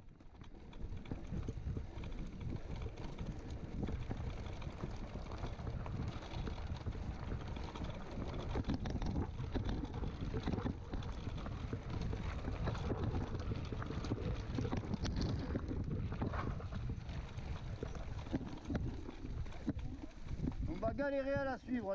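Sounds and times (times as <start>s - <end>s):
bike rattling over stones: 0.0s - 21.9s
wind buffeting microphone: 0.6s - 21.9s.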